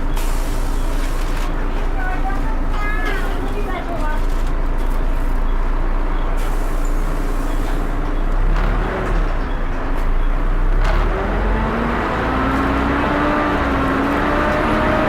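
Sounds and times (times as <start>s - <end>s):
bus engine cooling fan whine: 0.0s - 15.0s
low diesel engine rumble: 0.0s - 15.0s.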